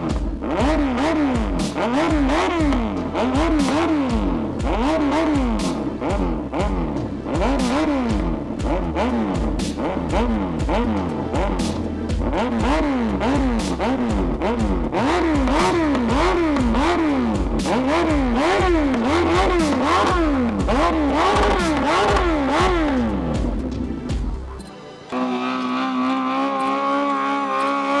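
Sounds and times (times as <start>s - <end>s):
music bass thumping: 0.0s - 24.7s
motorcycle engine revving: 0.0s - 28.0s.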